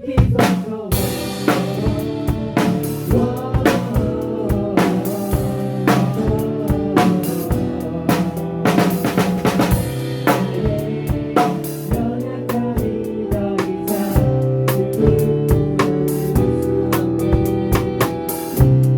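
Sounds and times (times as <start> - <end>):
drum kit hits: 0.2 - 18.9
live band playing: 0.9 - 18.9.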